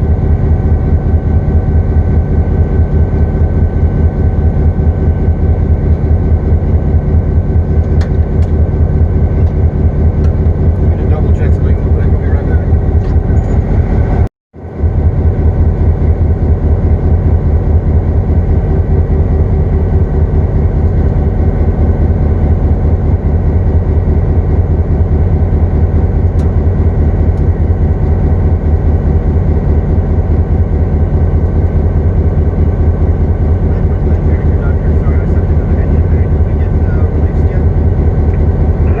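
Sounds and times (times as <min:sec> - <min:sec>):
diesel locomotive engine rumbling: 0:00.0 - 0:39.0.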